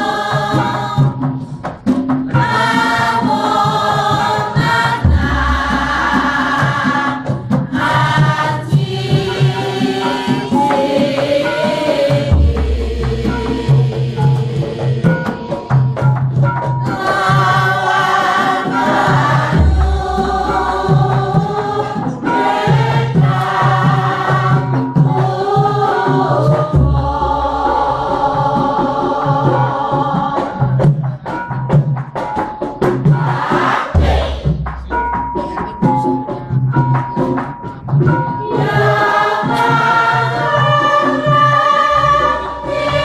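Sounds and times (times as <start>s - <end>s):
group of voices singing: 0.0s - 43.0s.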